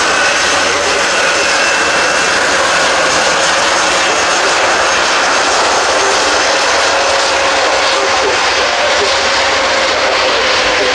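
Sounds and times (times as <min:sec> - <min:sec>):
turboprop engines droning: 0:00.0 - 0:10.9.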